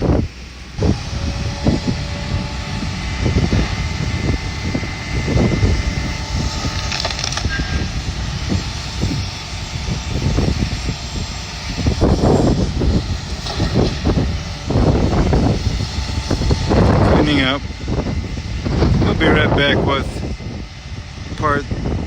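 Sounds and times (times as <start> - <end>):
faint whine: 0.0 - 22.0
heavy machinery engine running: 0.0 - 22.0
wind buffeting microphone: 0.0 - 22.0.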